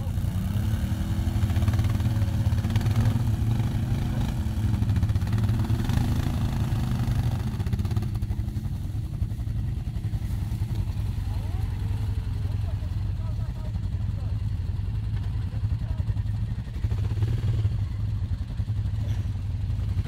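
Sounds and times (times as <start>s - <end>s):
atv engines running: 0.0s - 20.0s.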